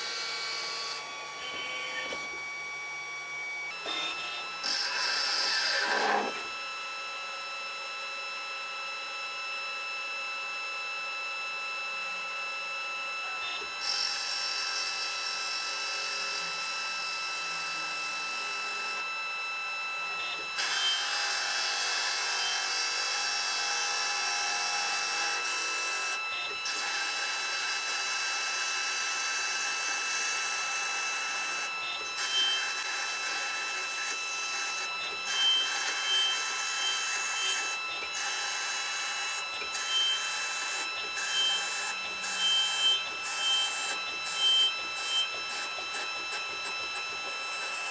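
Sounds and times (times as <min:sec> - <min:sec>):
lathe machine whine: 0:00.0 - 0:47.9.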